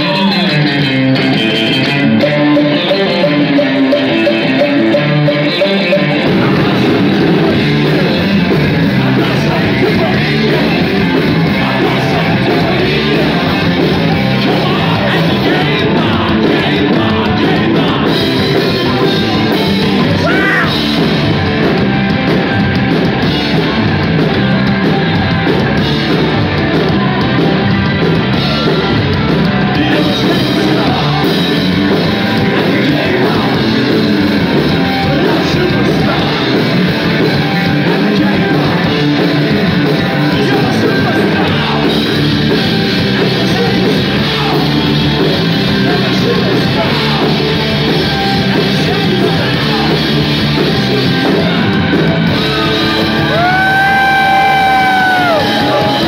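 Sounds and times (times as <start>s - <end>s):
shouted and sung vocals: 0.0s - 21.0s, 28.3s - 50.3s, 52.2s - 56.0s
live rock band playing: 0.0s - 56.0s.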